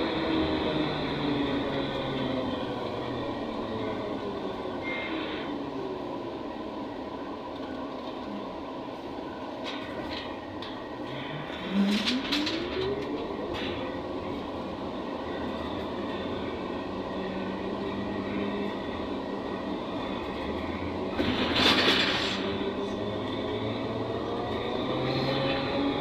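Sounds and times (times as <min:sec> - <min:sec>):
bus rumble and hum: 0:00.0 - 0:26.0.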